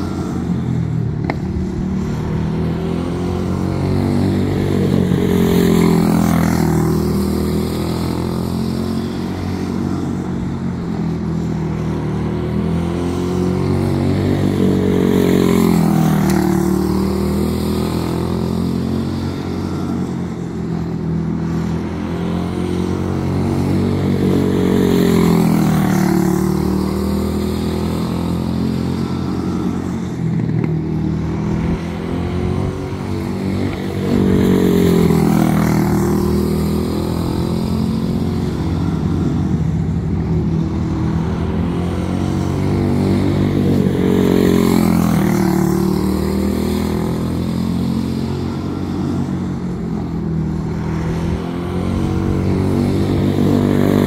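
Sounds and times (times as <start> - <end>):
small racing engine running: 0.0 - 54.0.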